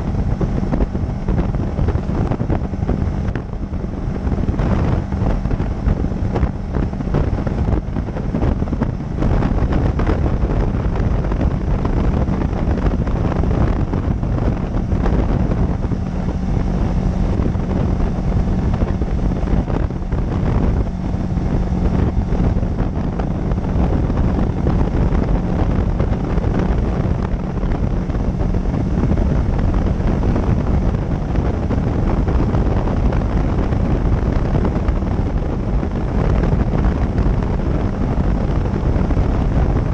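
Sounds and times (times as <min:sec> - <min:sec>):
motorcycle engine hum: 0:00.0 - 0:39.9
wind buffeting microphone: 0:00.0 - 0:39.9.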